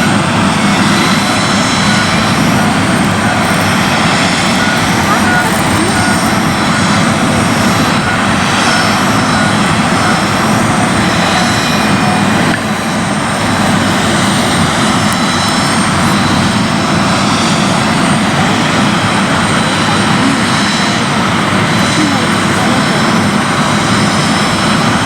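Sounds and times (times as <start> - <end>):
airliner engines rushing: 0.0 - 25.0
high whining tones: 0.0 - 25.0.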